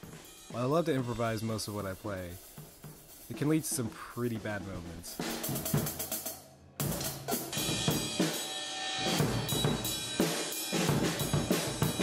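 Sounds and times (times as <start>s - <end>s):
acoustic drum kit playing: 0.0s - 12.0s.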